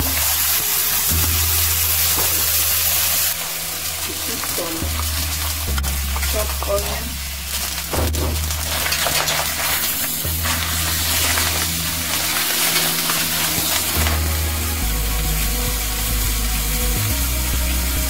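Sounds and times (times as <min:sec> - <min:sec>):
wooden spoon stirring: 0:00.0 - 0:14.7
background music with bass line: 0:00.0 - 0:18.0
shellfish sizzling in oil: 0:00.0 - 0:18.0.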